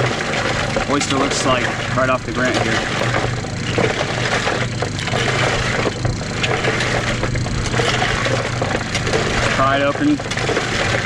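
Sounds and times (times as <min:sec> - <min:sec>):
oyster shells scraping and clicking: 0:00.0 - 0:11.0
steady low hum: 0:00.0 - 0:11.0.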